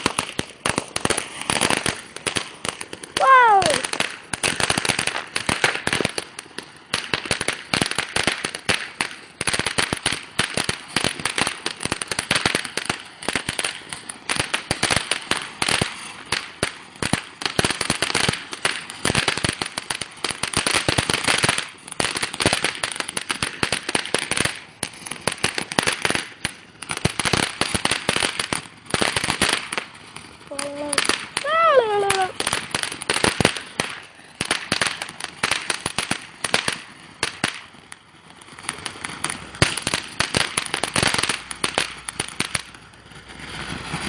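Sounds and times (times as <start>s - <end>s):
fireworks crackling: 0.0s - 44.0s.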